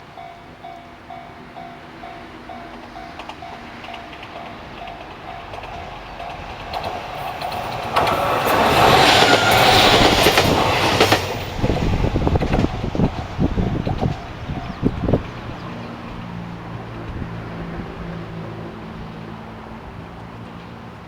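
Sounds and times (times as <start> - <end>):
train passing: 0.0 - 21.0
wheels clacking over rail joints: 1.6 - 21.0.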